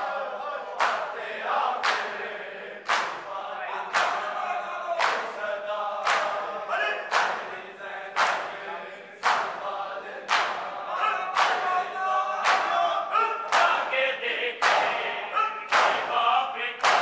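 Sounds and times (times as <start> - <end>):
crowd beating chests: 0.0 - 17.0
men chanting in unison: 0.0 - 17.0.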